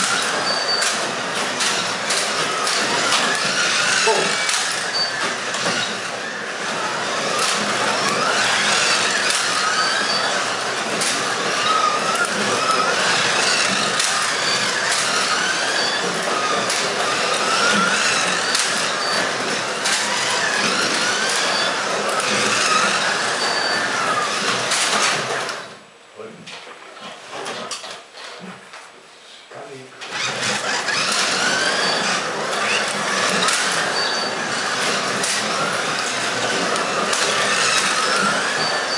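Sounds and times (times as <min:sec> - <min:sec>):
rolling rattle on plastic track: 0:00.0 - 0:25.7, 0:30.0 - 0:38.9
slot car motors whining: 0:00.0 - 0:25.8, 0:30.0 - 0:38.9.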